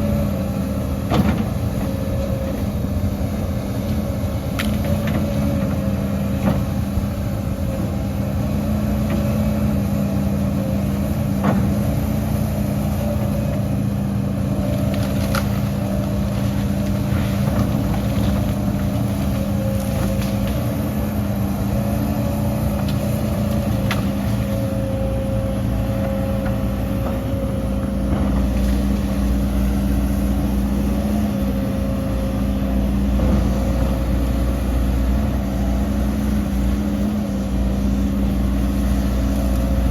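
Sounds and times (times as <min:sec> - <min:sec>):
heavy diesel machinery humming: 0:00.0 - 0:39.9.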